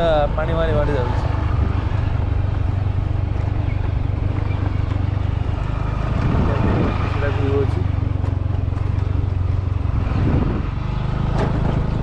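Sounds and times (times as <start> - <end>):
rumble over rough track: 0.0 - 12.0
vehicle engine running: 0.0 - 12.0.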